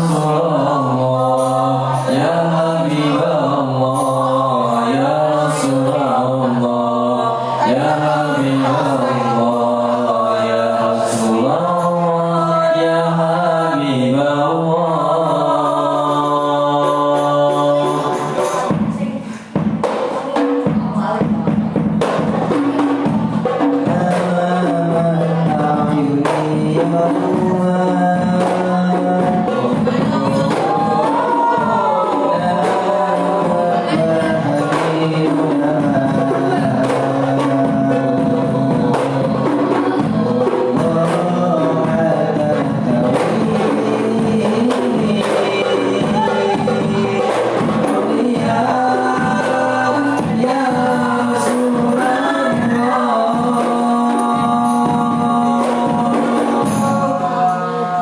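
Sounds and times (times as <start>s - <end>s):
frame drums beating: 0.0s - 58.0s
group singing: 0.0s - 58.0s.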